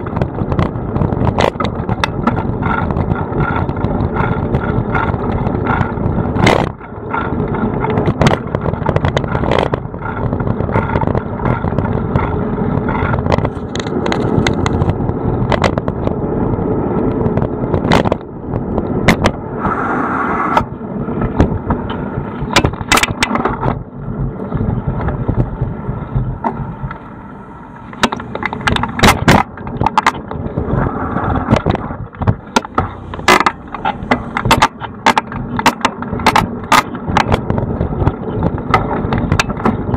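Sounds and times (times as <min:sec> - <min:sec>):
bike knocks and rattles: 0:00.0 - 0:19.6, 0:20.5 - 0:39.9
bicycle tyres rumbling on pavement: 0:00.0 - 0:39.9.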